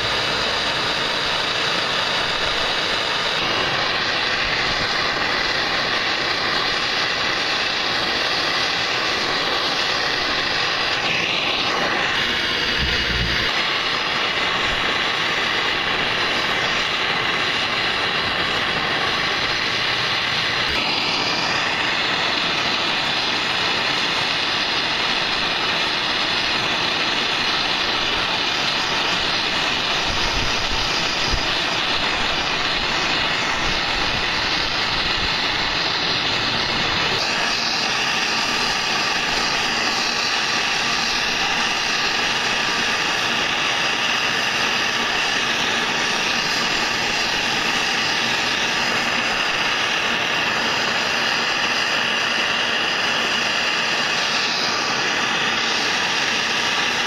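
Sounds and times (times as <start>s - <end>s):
propane torch hissing: 0.0s - 57.0s.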